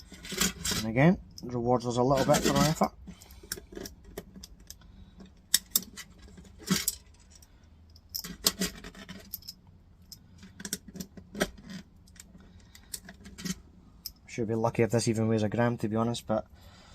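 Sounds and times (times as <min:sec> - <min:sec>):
scrap parts clicking and clattering: 0:00.0 - 0:14.2.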